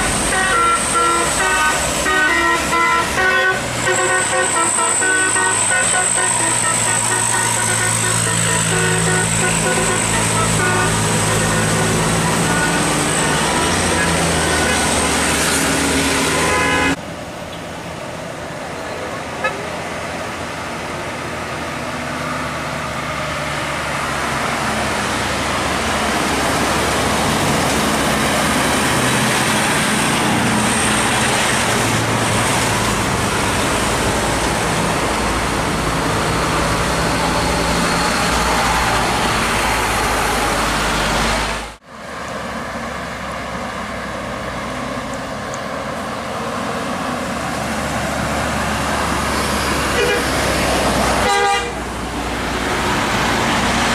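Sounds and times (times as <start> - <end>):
heavy road traffic: 0.0 - 53.9.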